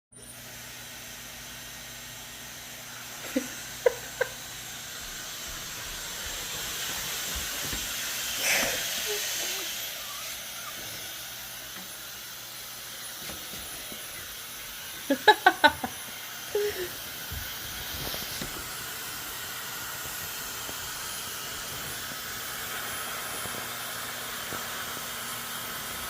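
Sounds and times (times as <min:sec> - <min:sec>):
steady hissing blowing noise: 0:00.8 - 0:26.0.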